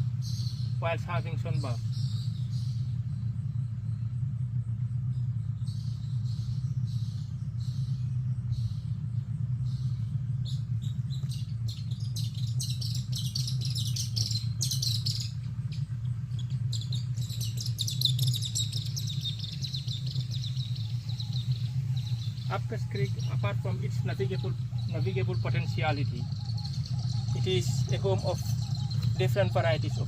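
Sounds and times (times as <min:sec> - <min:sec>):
birds chirping: 0:00.0 - 0:30.0
boat motor humming: 0:00.0 - 0:30.0.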